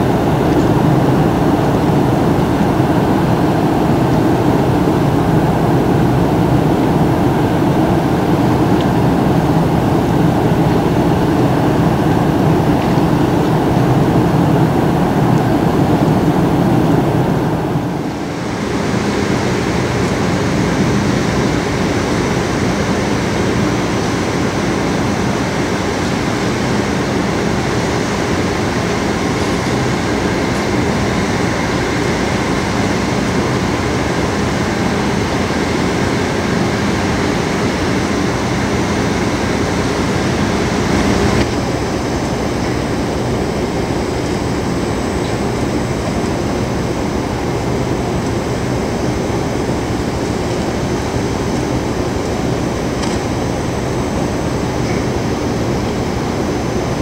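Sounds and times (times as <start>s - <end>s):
ship machinery droning: 0.0s - 57.0s.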